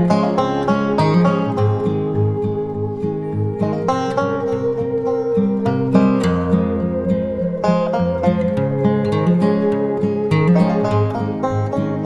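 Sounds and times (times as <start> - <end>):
banjo and guitar bluegrass music: 0.0 - 12.0.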